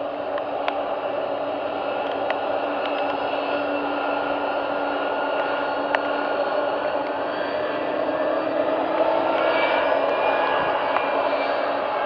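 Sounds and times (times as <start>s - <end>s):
jet engines hissing and whining: 0.0s - 12.0s.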